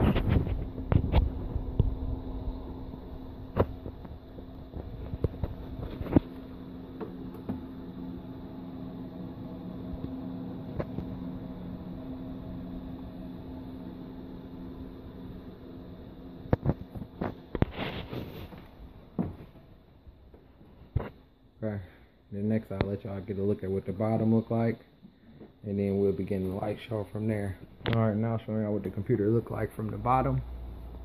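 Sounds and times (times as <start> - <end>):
computer fans humming: 0.0 - 31.0.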